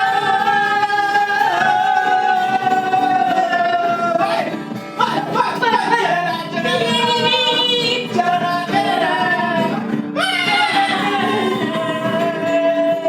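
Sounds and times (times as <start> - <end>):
acoustic guitar: 0.0 - 13.0
person singing long held notes: 0.0 - 13.0.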